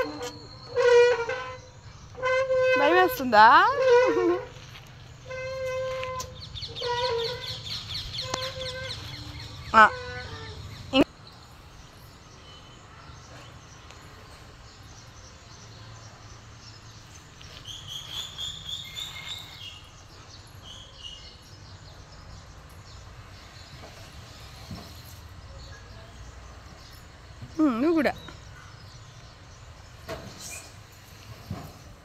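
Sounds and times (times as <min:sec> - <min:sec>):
faint outdoor background: 0:00.0 - 0:32.0.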